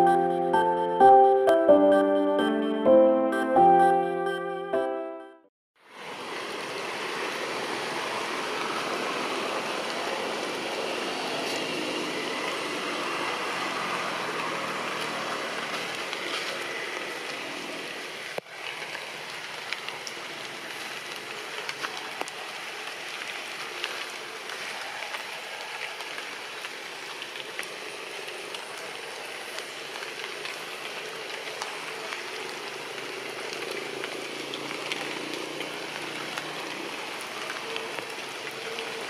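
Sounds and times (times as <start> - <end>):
rain on tree foliage: 5.8 - 39.0
sharp water drips: 6.8 - 39.0.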